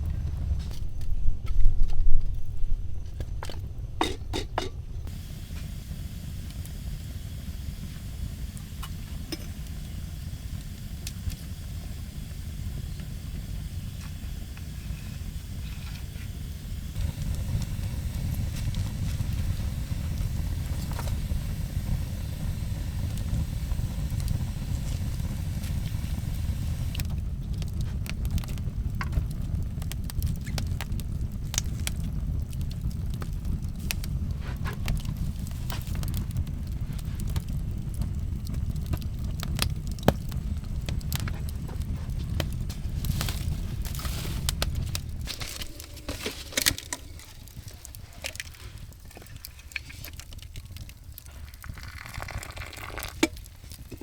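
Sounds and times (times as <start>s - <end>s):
fire crackles and snaps: 0.0s - 3.8s, 5.0s - 54.0s
wood fire rumbling: 0.0s - 54.0s.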